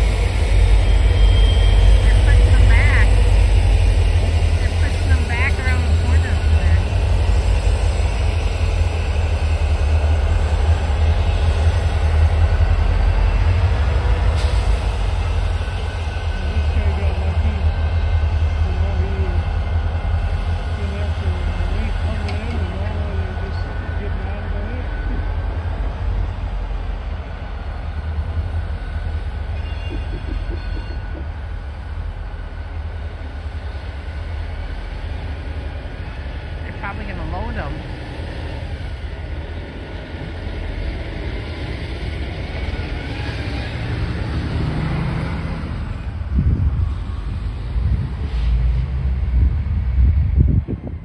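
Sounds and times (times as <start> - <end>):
diesel locomotive engine rumble: 0.0 - 51.0.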